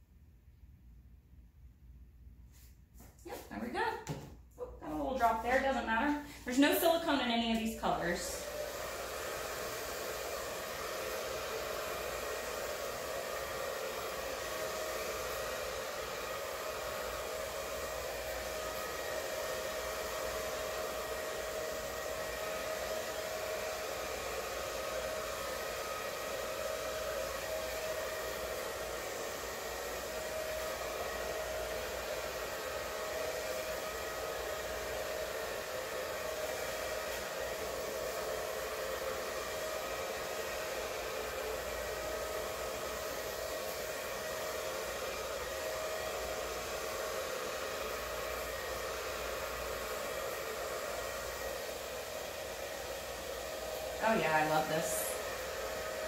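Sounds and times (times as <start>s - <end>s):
hair dryer running: 2.5s - 56.0s.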